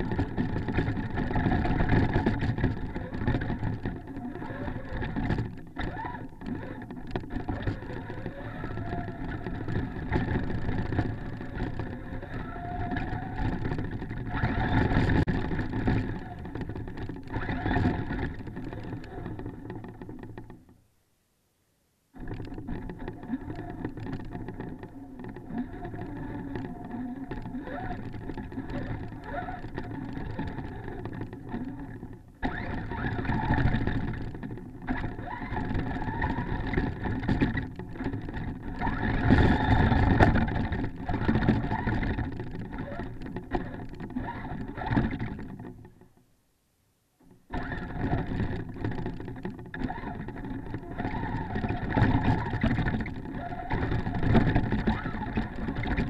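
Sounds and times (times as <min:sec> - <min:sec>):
rattle and snow noise: 0:00.0 - 0:20.8, 0:22.2 - 0:46.2, 0:47.3 - 0:56.0
toy truck motor whining: 0:00.3 - 0:19.8, 0:22.8 - 0:45.4, 0:47.5 - 0:56.0.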